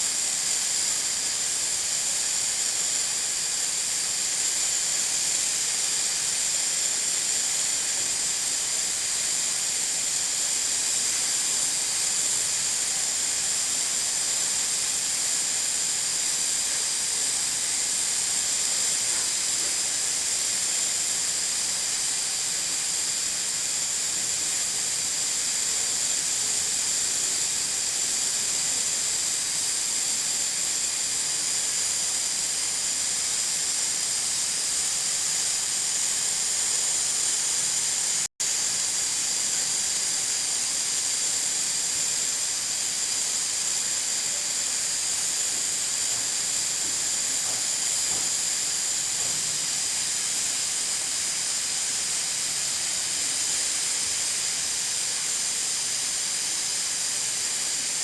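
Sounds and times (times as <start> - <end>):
pressure cooker venting steam: 0.0 - 58.0.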